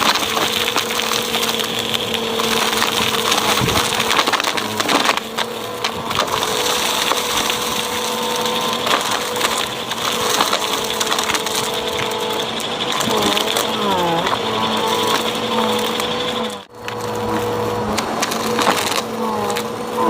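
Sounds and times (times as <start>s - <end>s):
debris crackling: 0.0s - 20.0s
vacuum cleaner on carpet: 0.0s - 20.0s.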